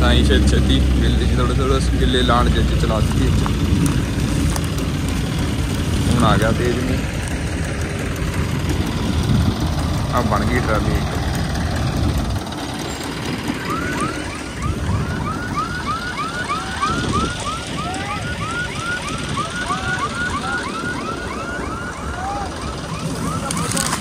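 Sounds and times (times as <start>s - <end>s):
machinery engine running: 0.0s - 24.0s.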